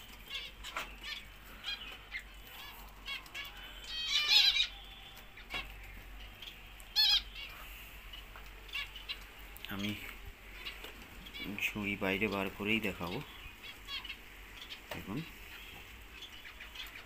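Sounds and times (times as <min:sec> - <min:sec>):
finches calling: 0:00.0 - 0:17.0.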